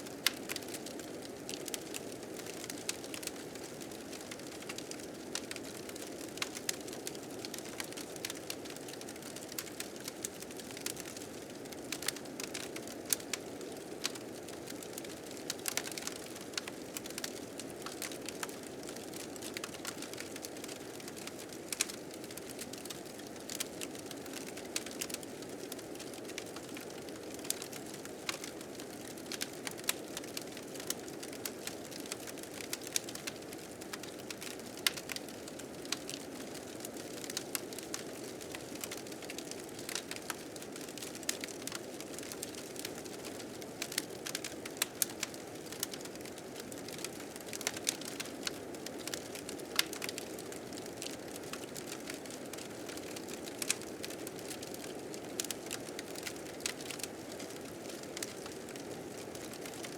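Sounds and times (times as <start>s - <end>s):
fire crackling and popping: 0.1s - 59.9s.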